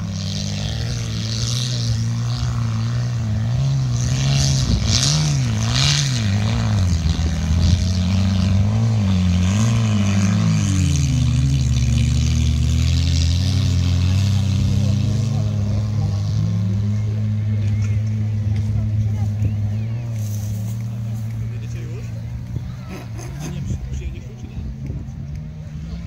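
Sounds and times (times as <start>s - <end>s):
car engines revving hard: 0.0s - 26.0s.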